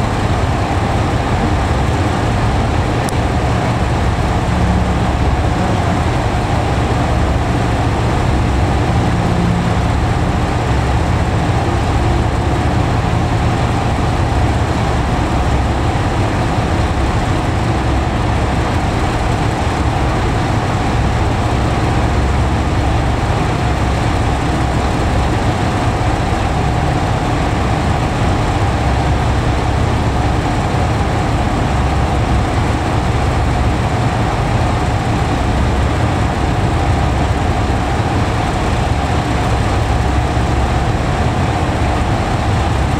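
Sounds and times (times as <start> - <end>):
diesel railcar engines idling: 0.0 - 42.9.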